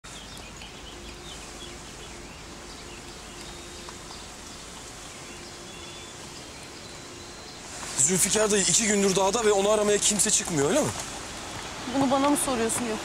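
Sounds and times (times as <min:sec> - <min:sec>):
outdoor background hiss: 0:00.0 - 0:13.0
small birds chirping: 0:00.0 - 0:13.0.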